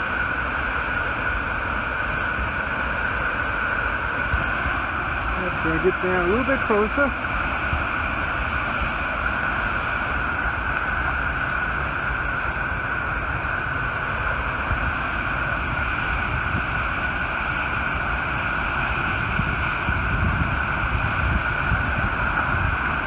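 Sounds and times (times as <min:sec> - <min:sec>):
rushing white water: 0:00.0 - 0:23.0.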